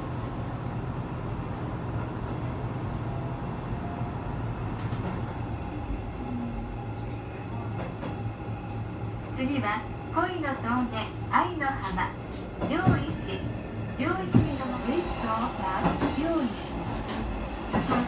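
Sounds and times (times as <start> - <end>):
railcar engine hum: 0.0 - 18.0.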